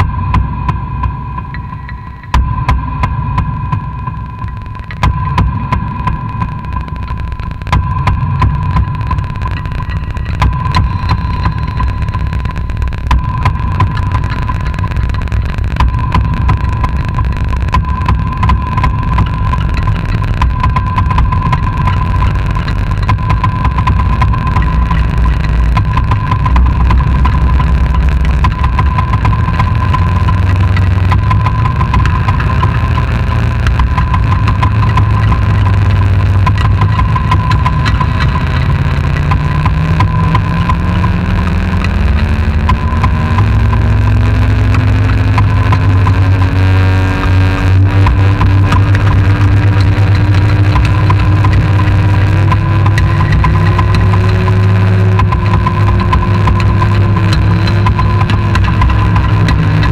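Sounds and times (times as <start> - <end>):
crackling clicks: 0.0 - 59.9
low electronic rumble: 0.0 - 59.9.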